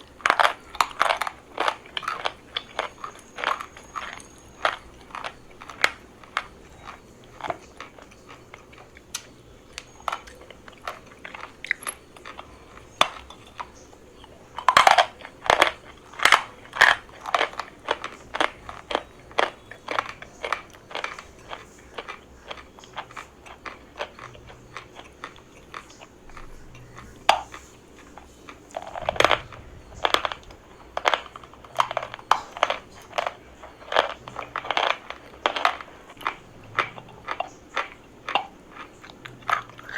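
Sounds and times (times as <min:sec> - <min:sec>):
chalk crunching while chewed: 0:00.0 - 0:39.9.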